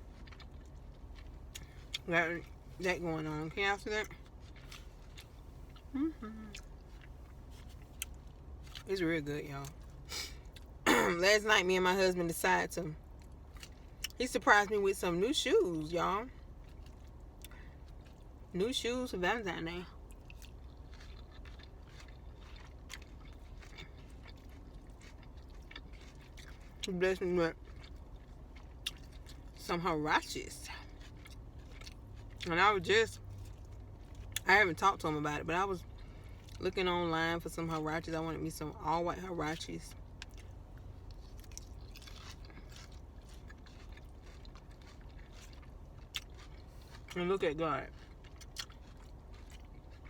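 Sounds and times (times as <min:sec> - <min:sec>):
chewing food: 0:00.0 - 0:10.8, 0:11.6 - 0:50.0
low steady hum: 0:00.0 - 0:50.0.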